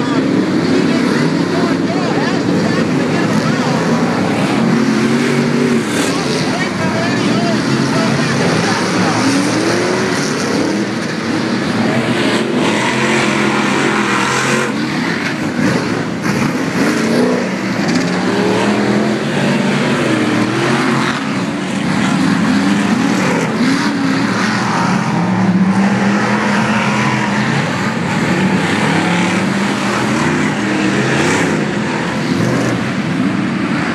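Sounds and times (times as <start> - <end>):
race truck engines revving: 0.0 - 33.9.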